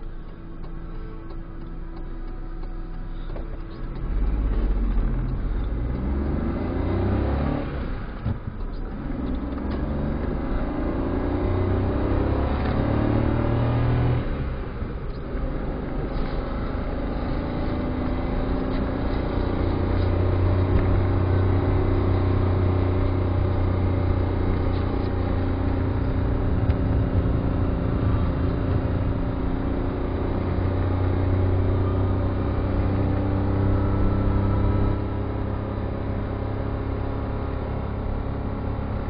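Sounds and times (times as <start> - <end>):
car engine drone: 0.0 - 39.0.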